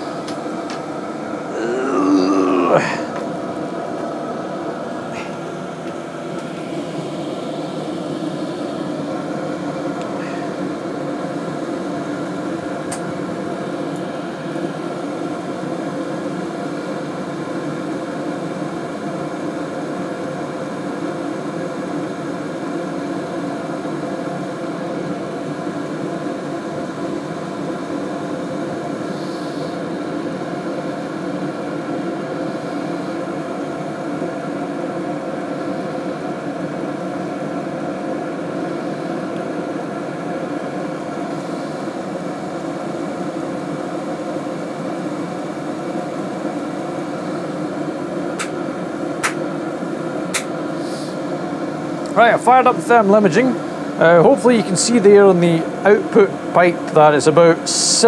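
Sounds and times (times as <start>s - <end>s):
heater blower humming: 0.0s - 58.0s.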